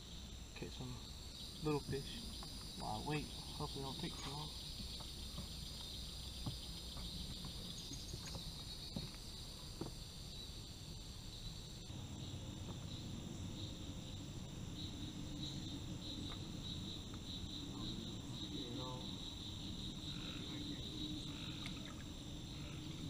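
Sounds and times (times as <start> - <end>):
insects chirping chorus: 0.0 - 23.0.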